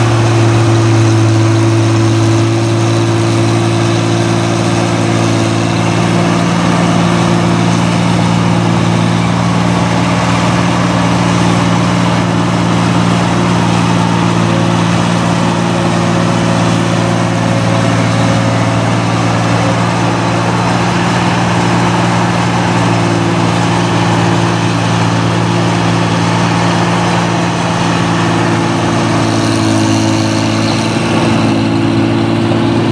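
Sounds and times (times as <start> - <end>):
combine harvester working: 0.0 - 32.9.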